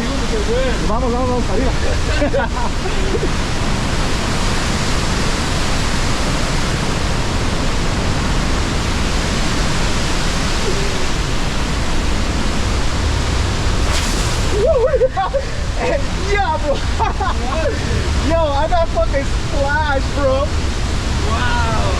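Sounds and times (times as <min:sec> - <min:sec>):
waterfall roaring: 0:00.0 - 0:18.3.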